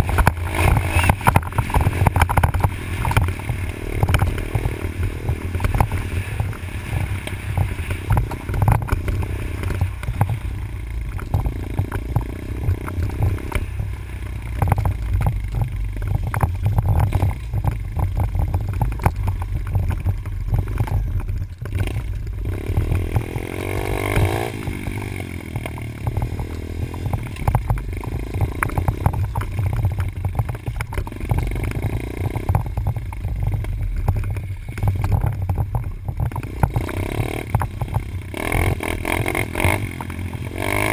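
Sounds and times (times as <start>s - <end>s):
dirt bike engine revving: 0.0s - 15.2s, 20.5s - 33.6s, 36.2s - 40.9s
knocks and clatter: 0.0s - 40.9s
wind rumble on microphone: 0.0s - 40.9s.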